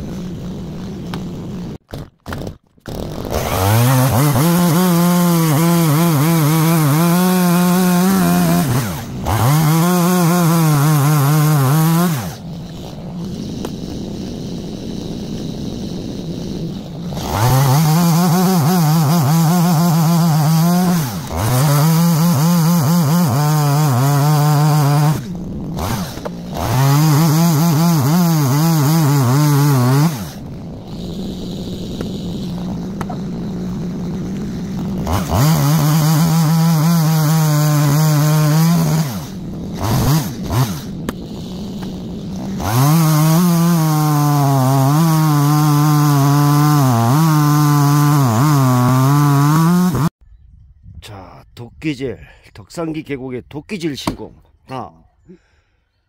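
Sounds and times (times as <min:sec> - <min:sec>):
chainsaw revving and cutting logs: 0:00.0 - 0:50.2, 0:55.3 - 0:55.8.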